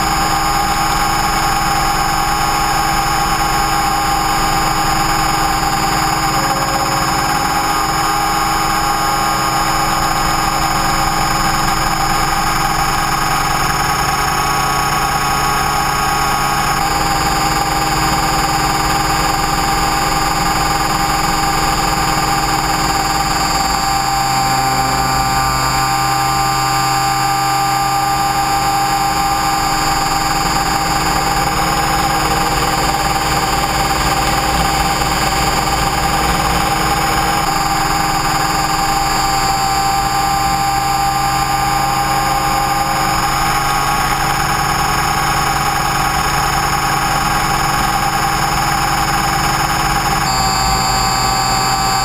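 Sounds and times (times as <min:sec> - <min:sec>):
electric motor whine: 0:00.0 - 0:52.0
helicopter rotor rush: 0:00.0 - 0:52.0.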